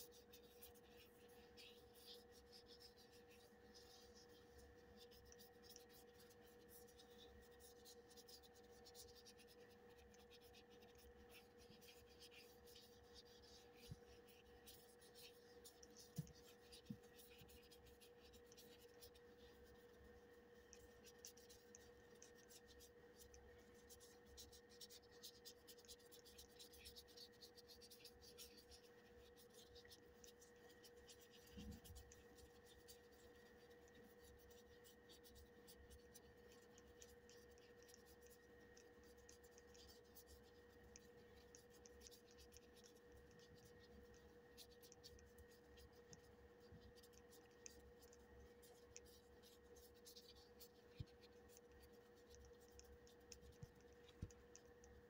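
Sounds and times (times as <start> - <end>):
brush pen scratching on paper: 0.0 - 54.8
steady faint tone: 0.0 - 55.0.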